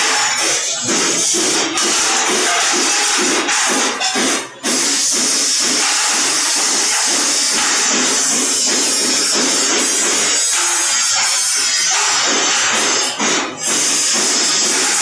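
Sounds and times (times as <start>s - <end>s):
nut-cracking machine hissing: 0.0s - 15.0s.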